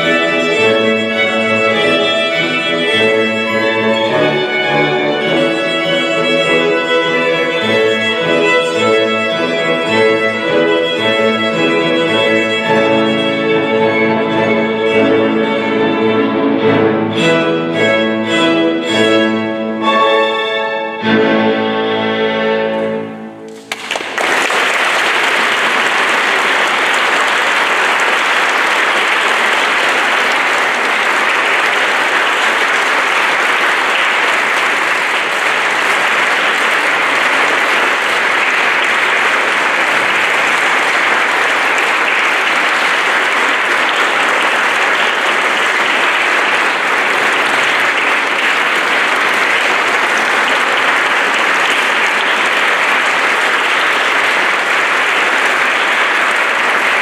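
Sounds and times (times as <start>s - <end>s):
audience applauding: 0.0s - 16.4s, 23.5s - 57.0s.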